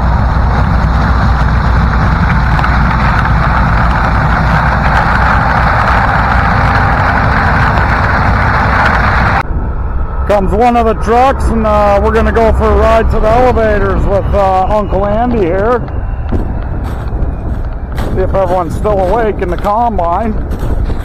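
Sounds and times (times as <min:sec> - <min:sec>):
heavy farm machinery drone: 0:00.0 - 0:21.0.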